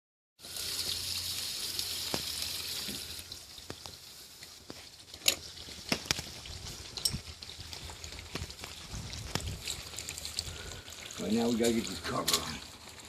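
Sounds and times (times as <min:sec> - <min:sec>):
water rushing and splashing: 0:00.4 - 0:13.0.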